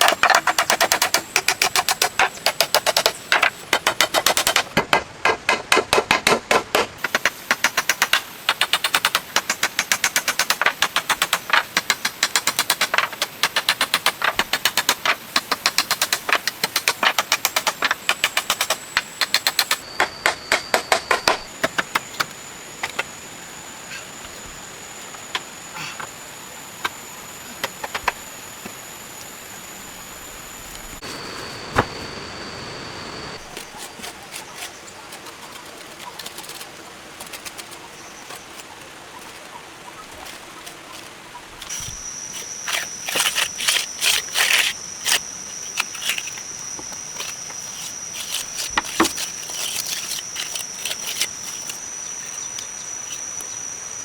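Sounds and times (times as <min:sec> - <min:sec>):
insects droning: 0:00.0 - 0:04.7, 0:07.0 - 0:54.0.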